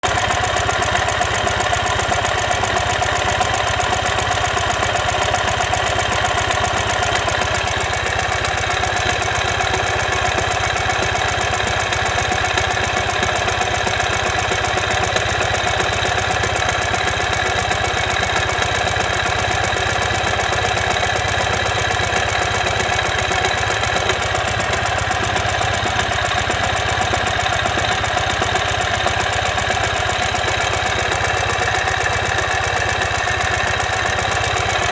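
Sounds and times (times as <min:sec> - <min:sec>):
engine knocking: 0:00.0 - 0:34.9
motorcycle engine running: 0:00.0 - 0:34.9.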